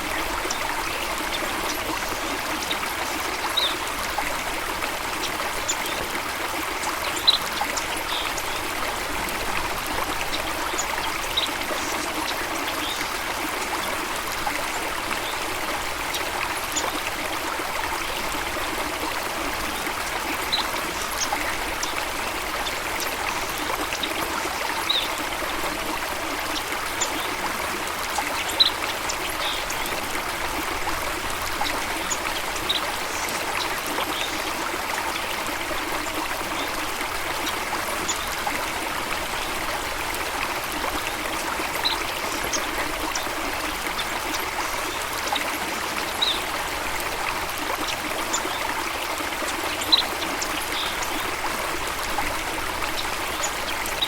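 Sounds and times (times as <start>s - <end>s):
stream water trickling and splashing: 0.0s - 54.0s.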